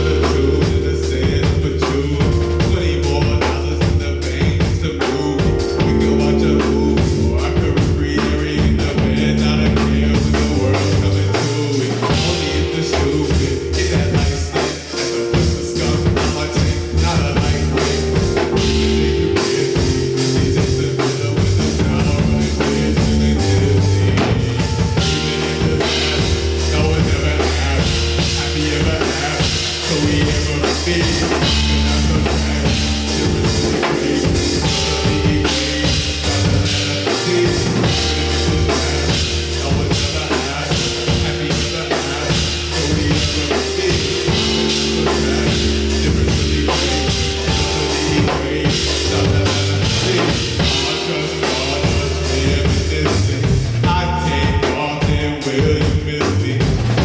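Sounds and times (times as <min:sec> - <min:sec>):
bass guitar: 0:00.0 - 0:57.0
drum kit: 0:00.0 - 0:57.0.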